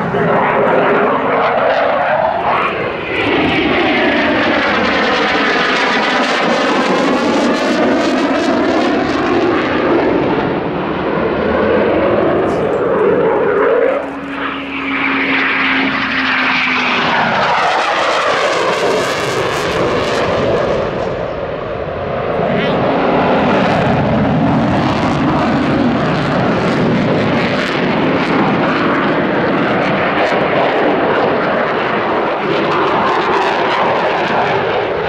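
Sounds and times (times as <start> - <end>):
fighter jet engines roaring: 0.0 - 35.0.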